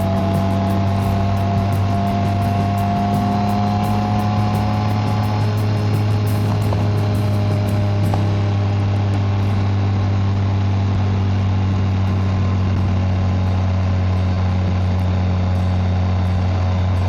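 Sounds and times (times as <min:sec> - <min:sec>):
motorcycle engine humming steadily: 0:00.0 - 0:17.0.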